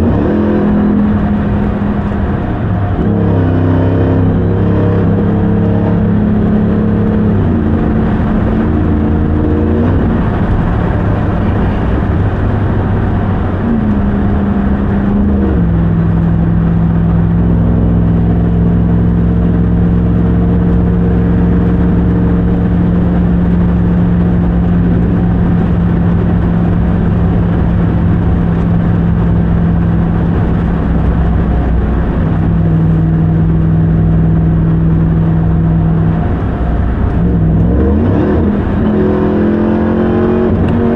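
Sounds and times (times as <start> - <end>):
truck engine shifting gears: 0.0 - 40.9.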